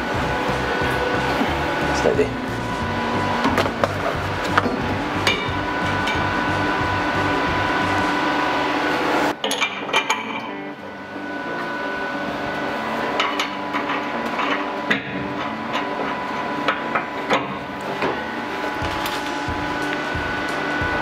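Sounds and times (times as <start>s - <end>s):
steady background tone: 0.0s - 21.0s.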